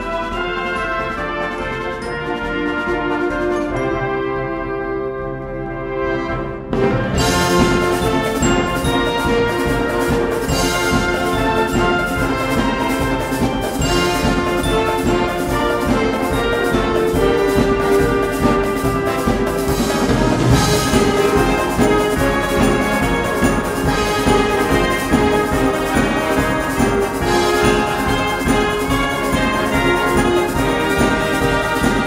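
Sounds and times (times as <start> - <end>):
wind band playing: 0.0 - 32.0.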